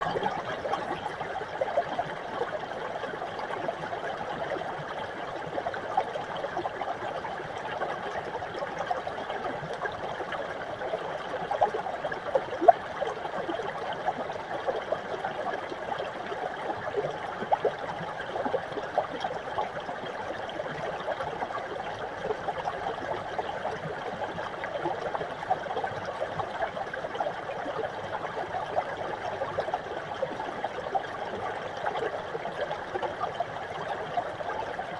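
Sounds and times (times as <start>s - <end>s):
brook babbling over rocks: 0.0s - 34.9s.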